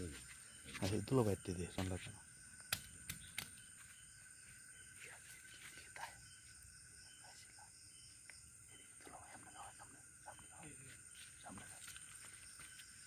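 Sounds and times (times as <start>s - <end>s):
night insect chorus: 0.0s - 13.0s.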